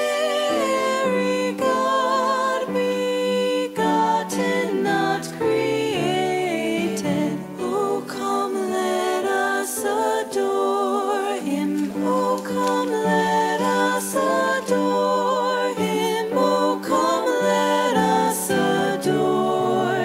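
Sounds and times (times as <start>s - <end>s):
slow sung vocal music: 0.0s - 20.0s.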